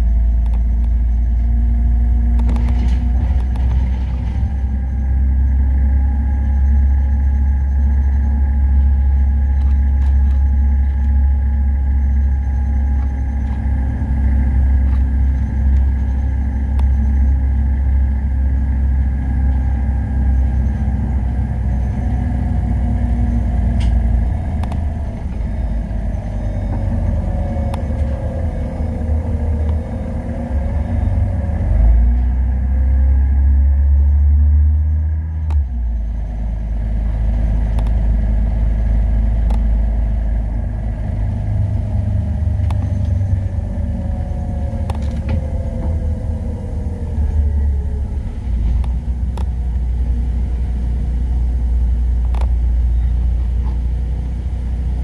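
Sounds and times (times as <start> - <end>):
bus engine and road rumble: 0.0 - 55.0
drivetrain whine: 0.0 - 55.0.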